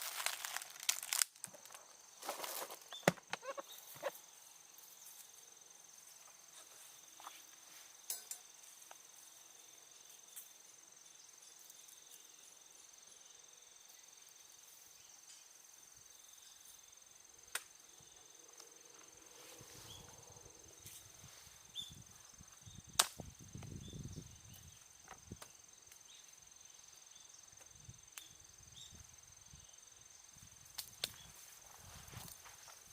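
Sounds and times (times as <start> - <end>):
high insect trill: 0.0 - 32.9.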